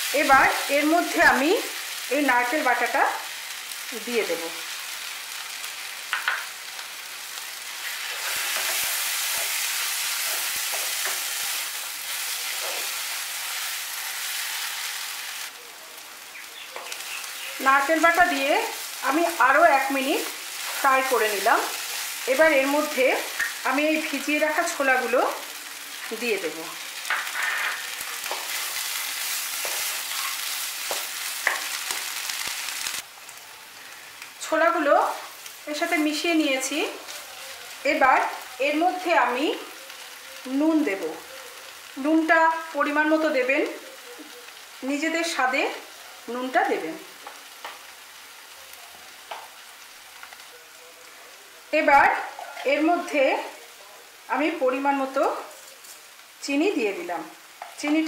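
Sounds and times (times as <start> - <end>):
paste sizzling in hot oil: 0.0 - 15.6, 16.2 - 50.4.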